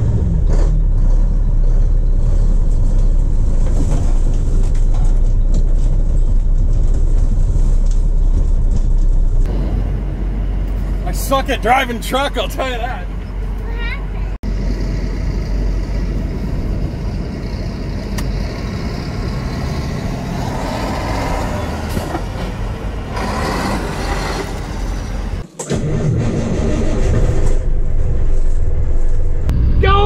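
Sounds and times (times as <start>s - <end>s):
road and traffic noise: 0.0s - 25.6s
diesel truck engine running: 0.0s - 30.0s.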